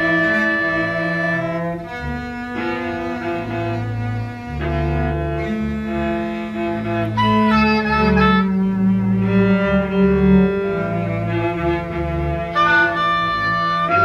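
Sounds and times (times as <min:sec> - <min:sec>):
bowed string music: 0:00.0 - 0:14.0.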